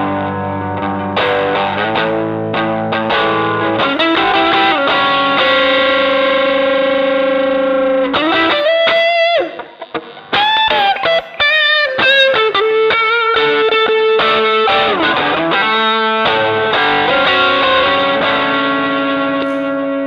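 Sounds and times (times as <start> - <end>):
electric guitar: 0.0 - 20.0.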